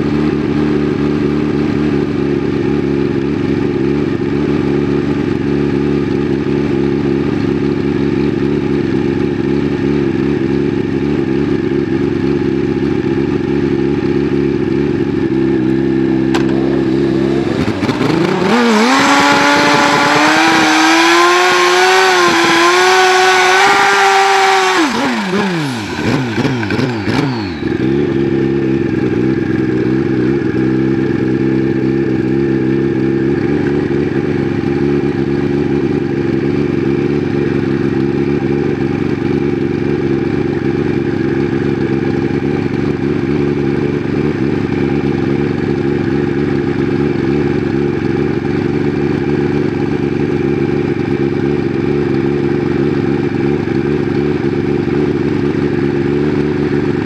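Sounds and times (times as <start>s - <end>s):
motorcycle engine revving and idling: 0.0s - 57.0s.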